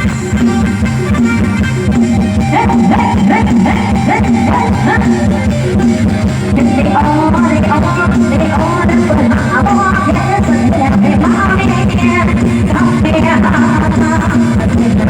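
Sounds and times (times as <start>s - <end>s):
live band music over loudspeakers: 0.0s - 15.0s.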